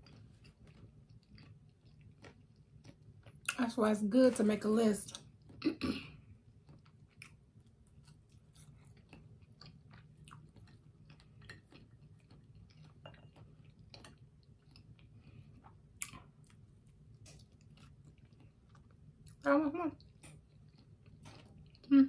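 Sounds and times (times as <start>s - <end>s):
chewing french fries: 0.0s - 3.8s, 5.0s - 22.0s.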